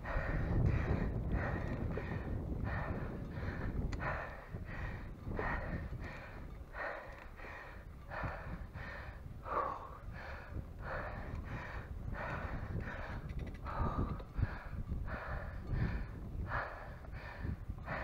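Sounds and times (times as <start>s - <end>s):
low rumble: 0.0s - 18.0s
person breathing hard: 0.0s - 18.0s.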